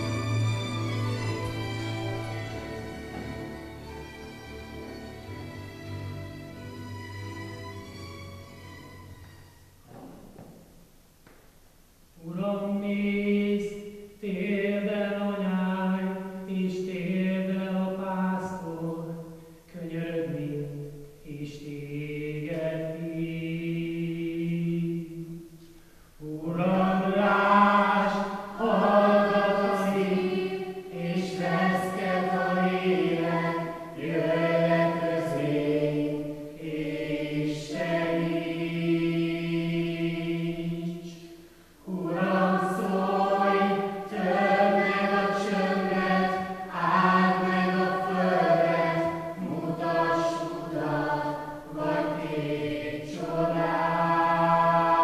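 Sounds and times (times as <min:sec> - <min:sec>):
mixed chorus singing slow song: 0:00.0 - 0:03.8, 0:12.2 - 0:55.0.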